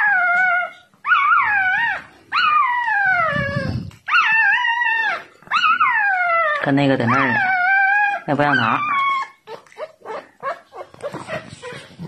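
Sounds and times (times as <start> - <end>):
puppy crying: 0.0 - 12.0.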